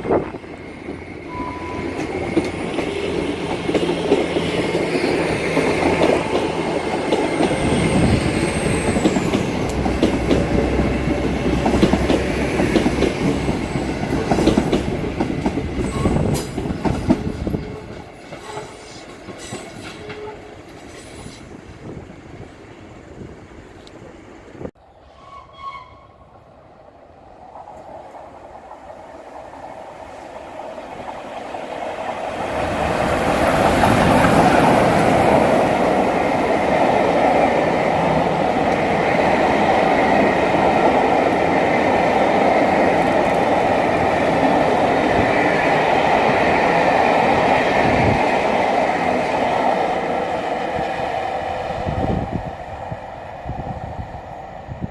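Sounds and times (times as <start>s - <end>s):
train rumbling on tracks: 0.0s - 54.9s.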